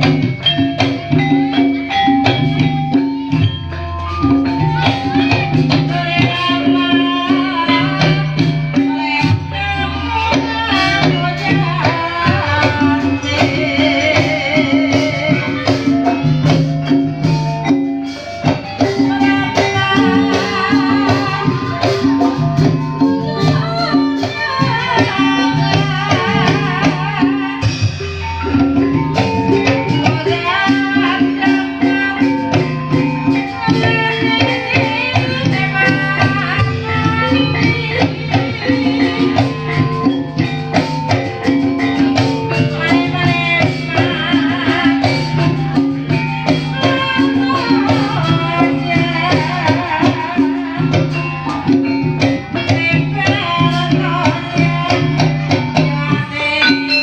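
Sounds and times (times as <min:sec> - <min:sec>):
drums playing: 0:00.0 - 0:57.0
struck metal percussion: 0:00.0 - 0:57.0
wavering high melody: 0:00.0 - 0:57.0.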